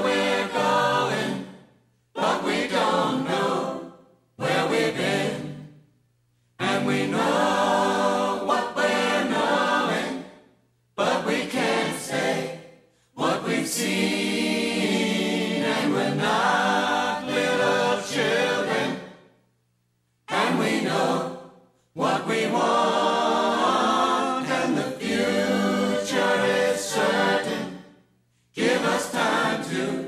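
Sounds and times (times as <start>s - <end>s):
choir singing: 0.0s - 5.8s, 6.6s - 19.4s, 20.3s - 30.0s.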